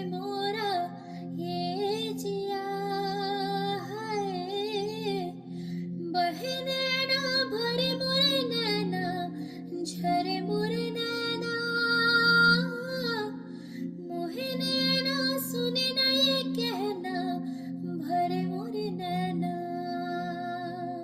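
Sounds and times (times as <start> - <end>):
woman singing slow melody: 0.0 - 21.0.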